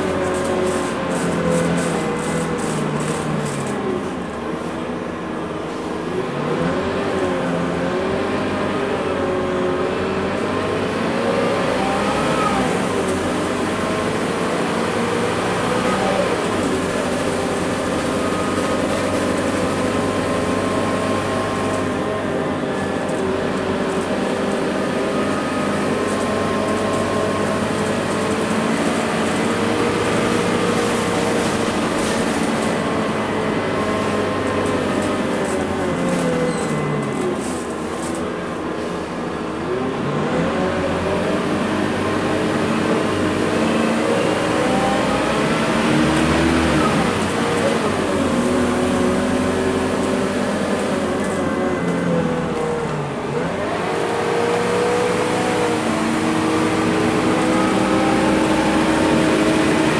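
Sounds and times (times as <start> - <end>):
bus diesel engine from inside: 0.0 - 59.9.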